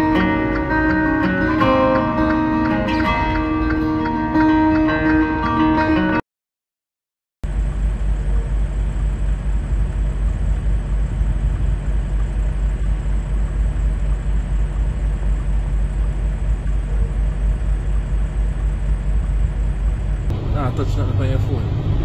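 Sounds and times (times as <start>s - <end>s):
low rumble of vehicles: 0.0s - 6.2s, 7.4s - 22.0s.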